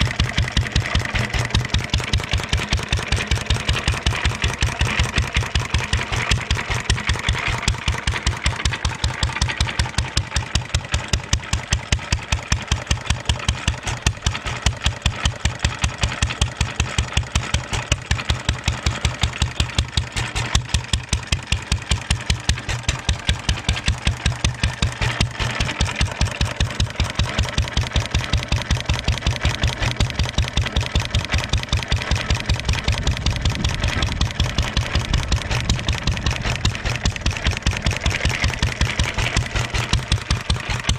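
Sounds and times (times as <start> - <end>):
stationary engine running: 0.0 - 40.9.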